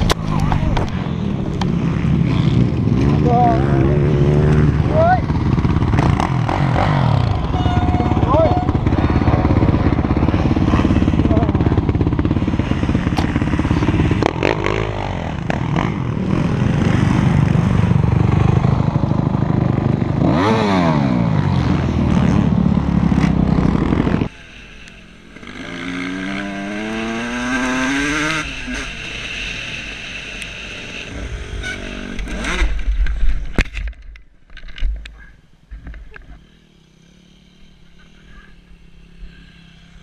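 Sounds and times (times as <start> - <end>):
dirt bike accelerating: 0.0 - 33.9, 35.8 - 40.0
dirt bike engine revving: 0.6 - 33.0.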